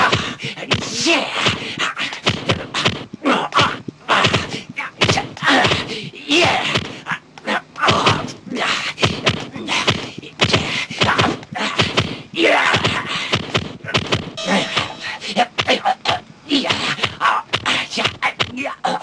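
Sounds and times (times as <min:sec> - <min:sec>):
snapping strike sounds: 0:00.0 - 0:08.4, 0:09.0 - 0:14.4, 0:16.6 - 0:18.6.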